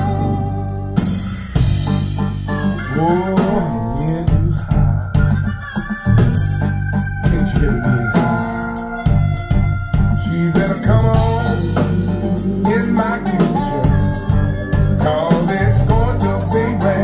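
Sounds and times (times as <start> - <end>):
plucked guitar: 0.0 - 17.0
person singing: 2.5 - 17.0.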